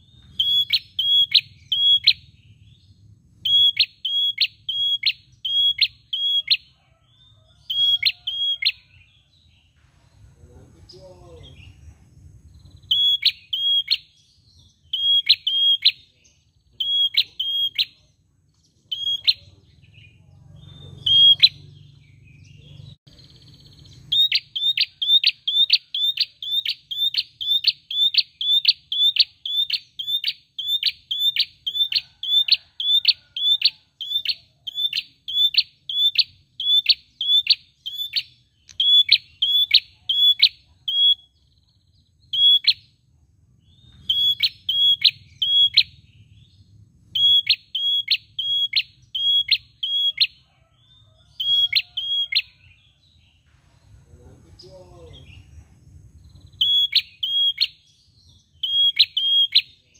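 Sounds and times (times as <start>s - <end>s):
bird singing high chirps: 0.0s - 59.9s.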